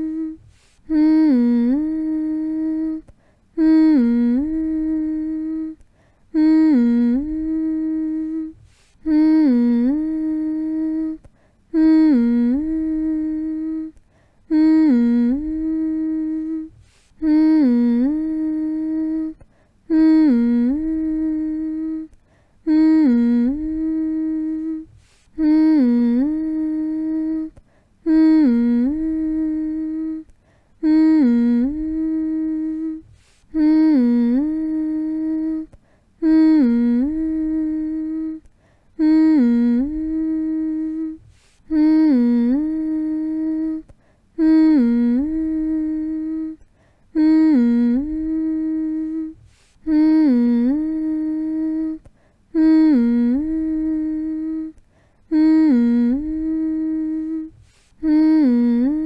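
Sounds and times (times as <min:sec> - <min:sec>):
person humming low note: 0:00.0 - 0:59.0.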